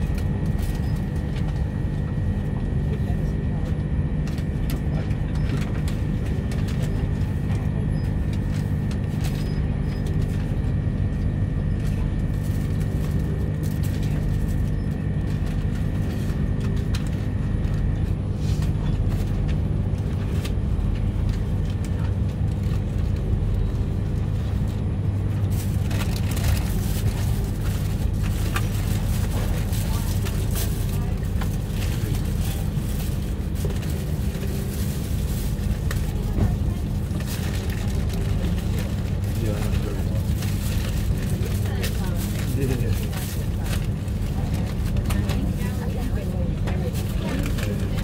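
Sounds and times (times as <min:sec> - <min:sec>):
train running rumble: 0:00.0 - 0:48.0.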